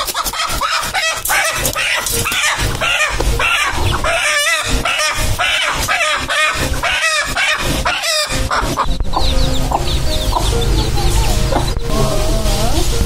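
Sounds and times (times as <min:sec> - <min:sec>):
chicken squawking: 0:00.0 - 0:11.8
background music: 0:00.0 - 0:13.0.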